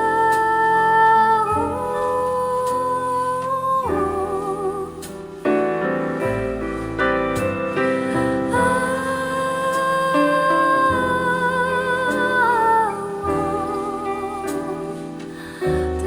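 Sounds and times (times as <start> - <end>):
piano: 0.0 - 16.0.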